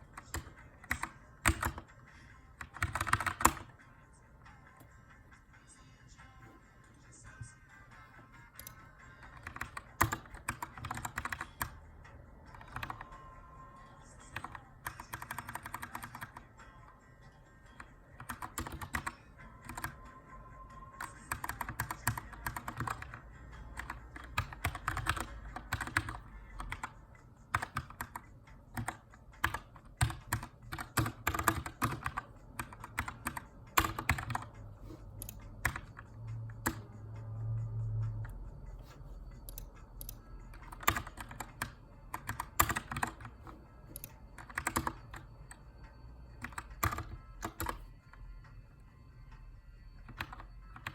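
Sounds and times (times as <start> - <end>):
faint background music: 0.0 - 50.9.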